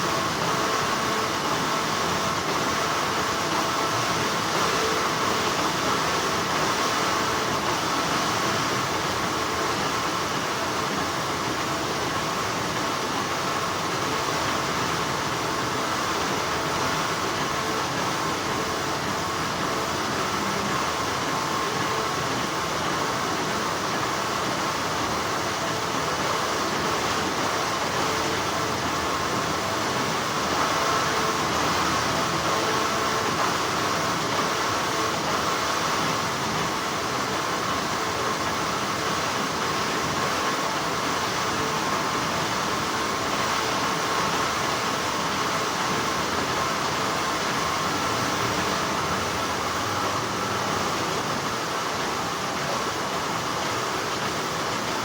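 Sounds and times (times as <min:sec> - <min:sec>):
factory machinery humming: 0:00.0 - 0:55.0.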